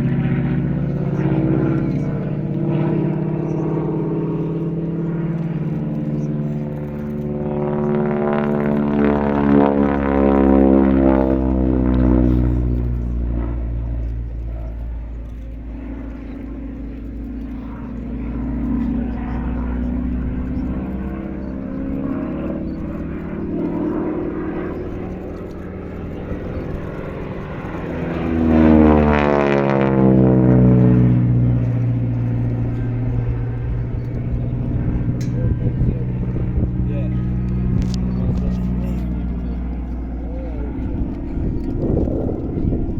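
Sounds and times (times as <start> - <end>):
propeller plane flying past: 0.0 - 42.9.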